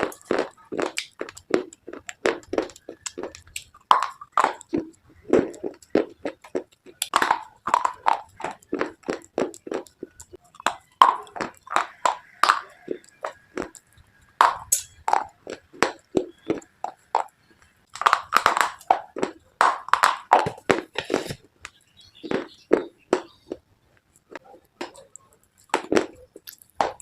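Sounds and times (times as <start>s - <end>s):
person chewing brittle pieces: 0.0s - 27.0s.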